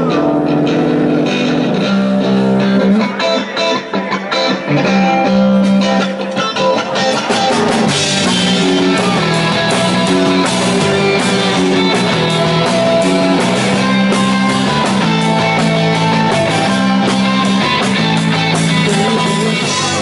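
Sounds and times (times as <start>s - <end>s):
drum kit: 0.0s - 20.0s
electric guitars sustained notes: 0.0s - 20.0s.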